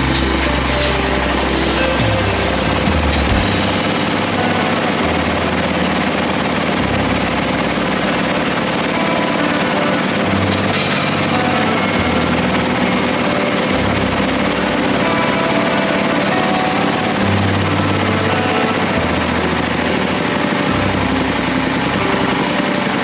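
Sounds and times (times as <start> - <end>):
drilling rig engine running: 0.0 - 23.0.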